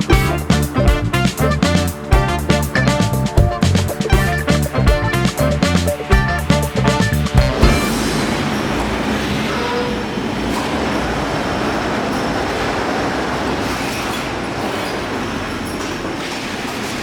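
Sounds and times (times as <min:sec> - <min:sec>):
production line machinery din: 0:00.0 - 0:17.0.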